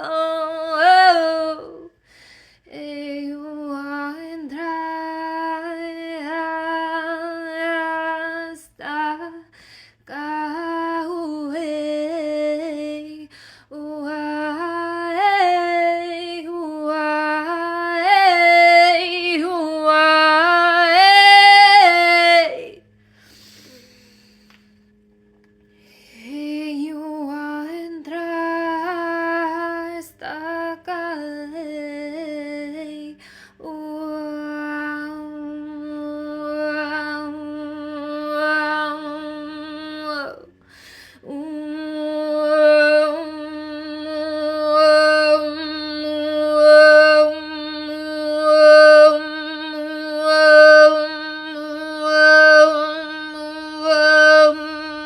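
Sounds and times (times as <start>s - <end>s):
woman chanting in long tones: 0.0s - 2.0s, 2.6s - 25.0s, 25.9s - 55.0s.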